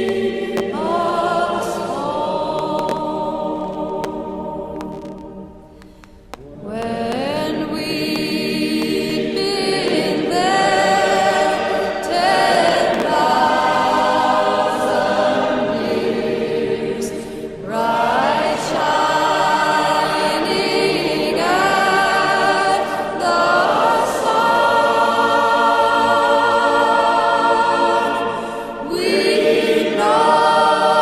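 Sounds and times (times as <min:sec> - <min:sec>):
choir singing a hymn: 0:00.0 - 0:04.8, 0:07.4 - 0:31.0.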